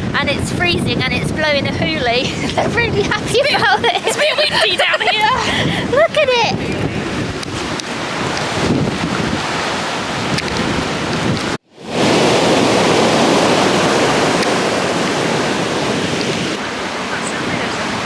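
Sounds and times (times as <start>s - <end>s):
sea surf breaking: 0.0s - 18.0s
wind buffeting microphone: 0.0s - 18.0s.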